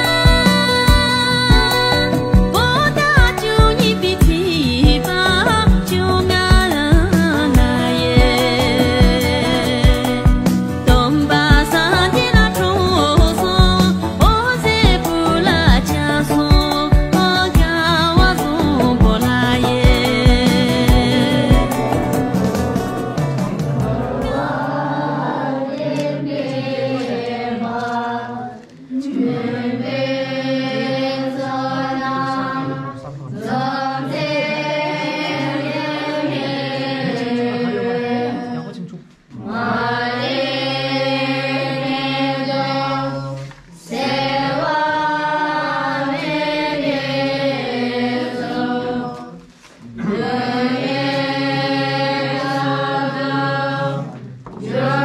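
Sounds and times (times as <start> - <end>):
voices chanting a prayer: 4.7 - 55.0.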